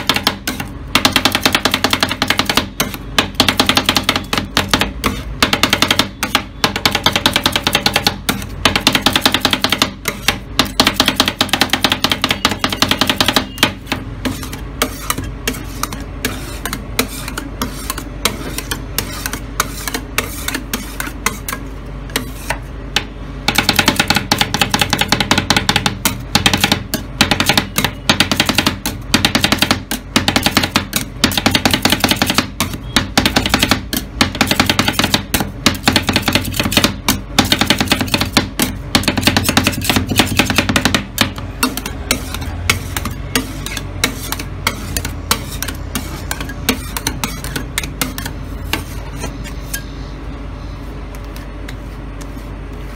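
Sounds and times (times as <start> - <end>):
metal spatulas chopping and scraping: 0.0 - 50.0.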